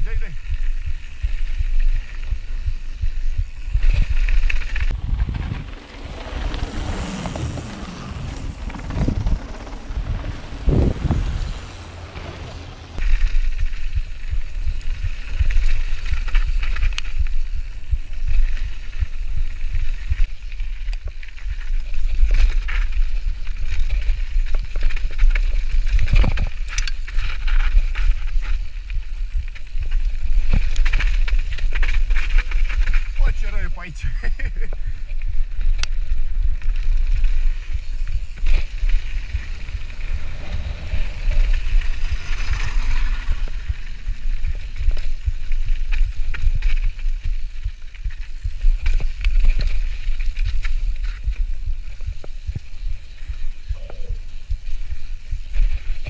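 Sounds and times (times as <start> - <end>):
bike tyres rolling over gravel: 0.0 - 56.0
wind on microphone: 0.0 - 56.0.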